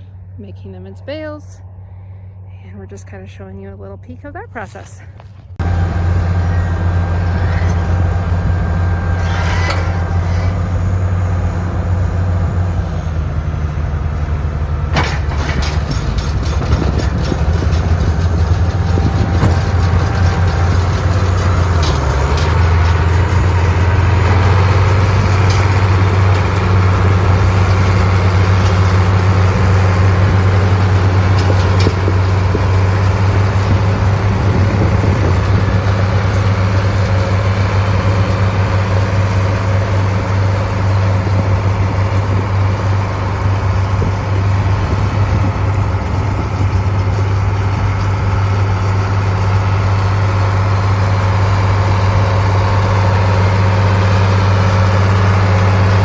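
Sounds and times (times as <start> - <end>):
tractor engine humming: 0.0 - 56.0.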